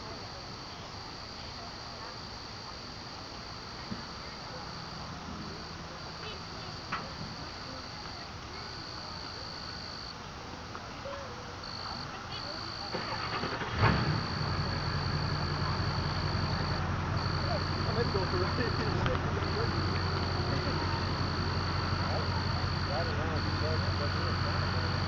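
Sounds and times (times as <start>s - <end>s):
crickets chirring: 0.0s - 25.0s
low hiss: 0.0s - 25.0s.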